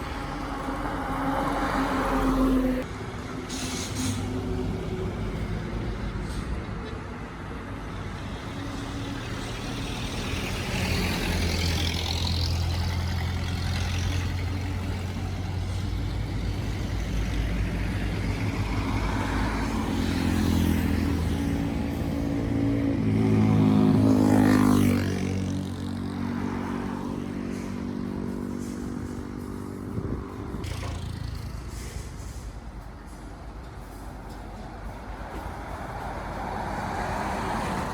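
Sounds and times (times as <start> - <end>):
vehicle passing by: 0.0 - 2.9, 8.2 - 32.7, 34.9 - 37.9
truck engine drone: 0.0 - 37.9.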